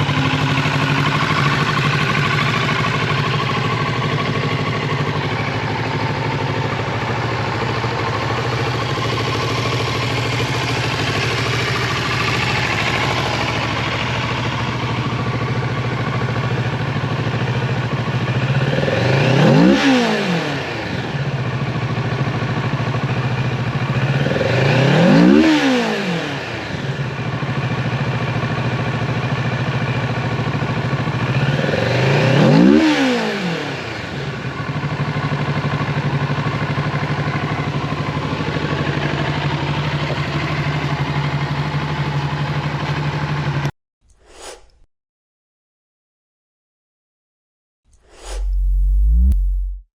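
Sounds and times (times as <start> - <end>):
motorcycle engine idling and revving: 0.0 - 43.7, 48.0 - 49.9.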